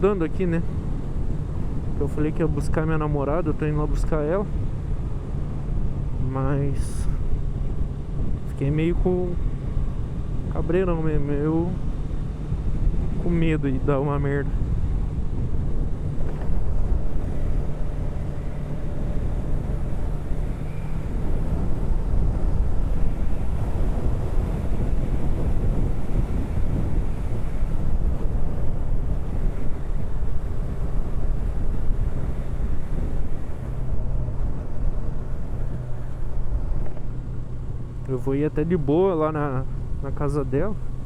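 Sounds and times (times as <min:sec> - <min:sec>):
wind buffeting microphone: 0:00.0 - 0:41.0
motorcycle engine running: 0:04.4 - 0:41.0.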